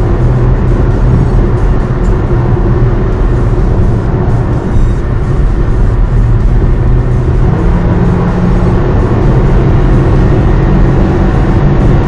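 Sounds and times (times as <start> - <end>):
car engine and road noise: 0.0 - 12.0
music playing: 0.0 - 12.0.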